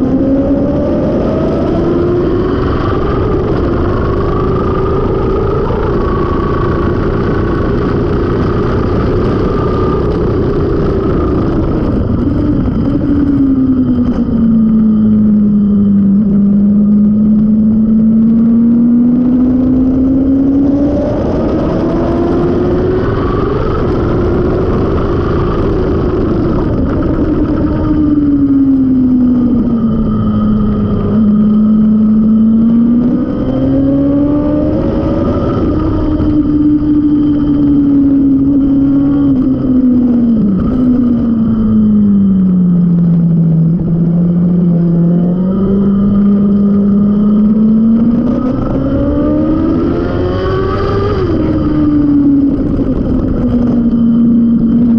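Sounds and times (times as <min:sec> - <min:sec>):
motorcycle engine revving: 0:00.0 - 0:54.9
wind and road noise: 0:00.0 - 0:54.9.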